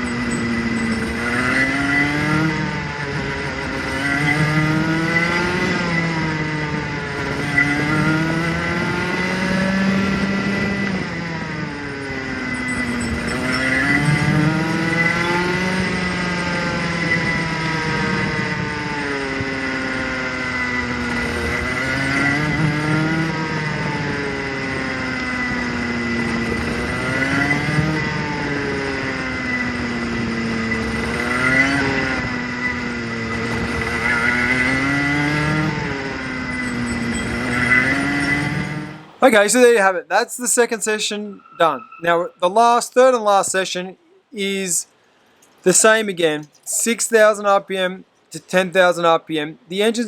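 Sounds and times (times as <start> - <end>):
go-kart engine revving: 0.0 - 43.1.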